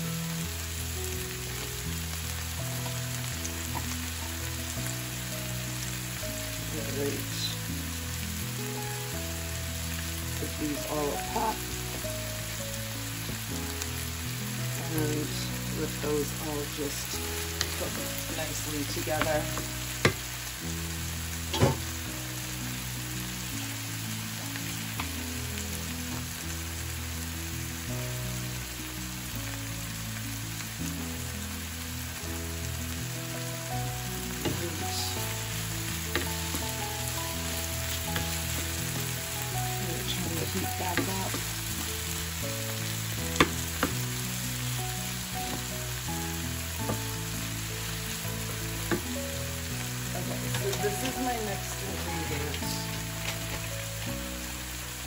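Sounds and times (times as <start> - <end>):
food sizzling in frying pan: 0.0 - 55.0
soft background music: 0.0 - 55.0.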